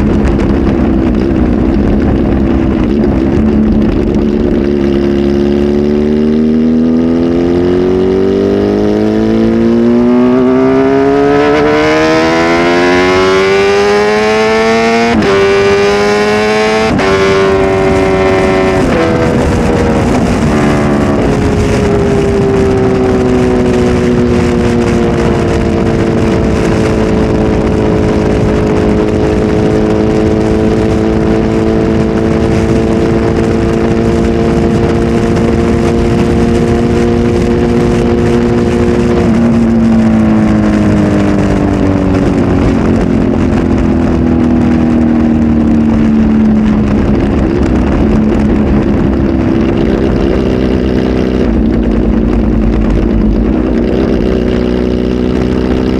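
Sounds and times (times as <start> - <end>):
motorcycle engine revving: 0.0 - 55.9
steady rushing noise: 0.0 - 55.9.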